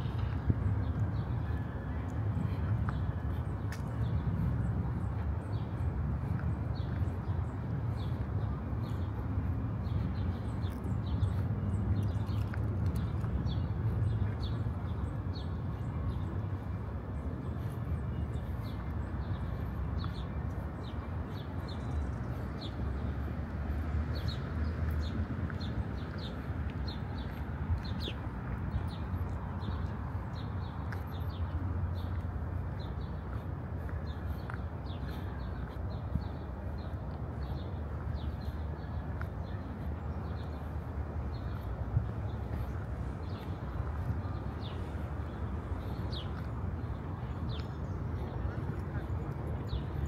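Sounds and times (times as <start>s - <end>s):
city traffic rumble: 0.0s - 50.0s
small birds chirping: 0.0s - 50.0s.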